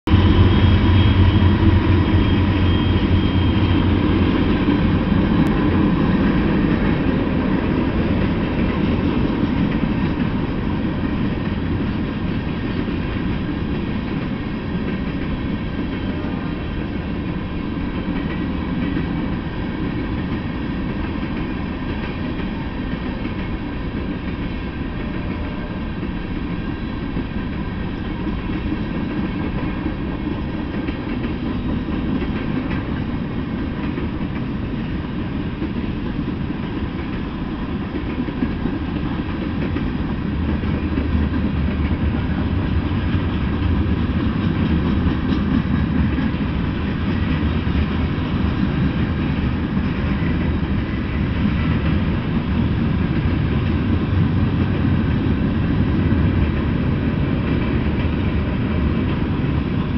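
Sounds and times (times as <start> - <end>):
diesel locomotive engine drone: 0.0 - 59.9
freight cars rolling on rails: 0.1 - 59.9.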